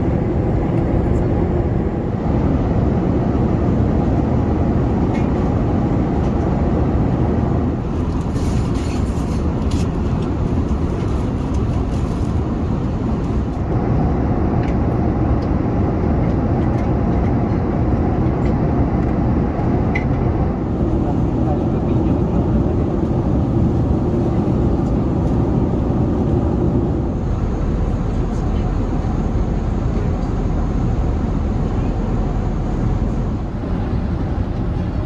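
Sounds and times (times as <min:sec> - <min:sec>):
airliner cabin rumble: 0:00.0 - 0:35.0.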